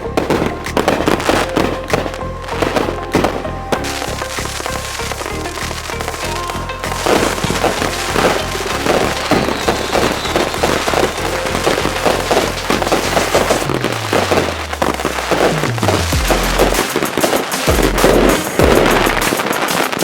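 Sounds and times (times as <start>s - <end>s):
background music: 0.0s - 20.0s
fireworks bangs and crackles: 0.0s - 20.0s.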